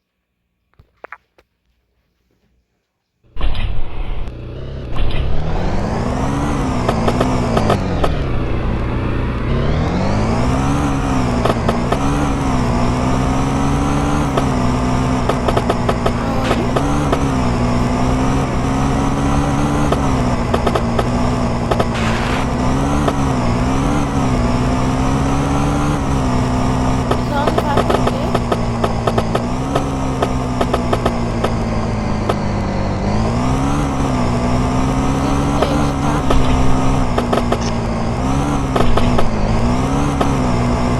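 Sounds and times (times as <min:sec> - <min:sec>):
moped engine revving: 0:03.3 - 0:40.9.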